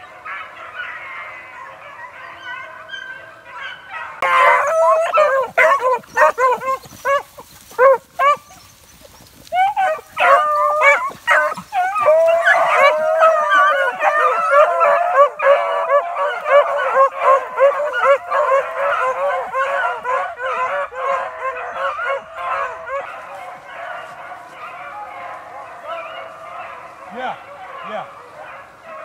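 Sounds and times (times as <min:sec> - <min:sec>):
dogs baying: 0:00.1 - 0:29.0.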